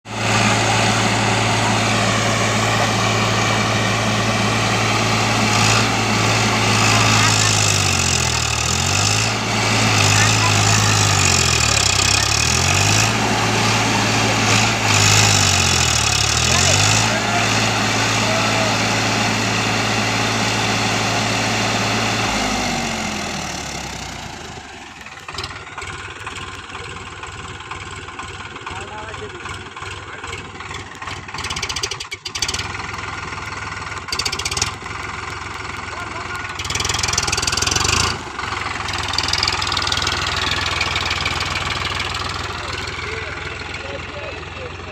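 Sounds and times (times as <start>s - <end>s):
tractor diesel engine humming: 0.0s - 44.9s.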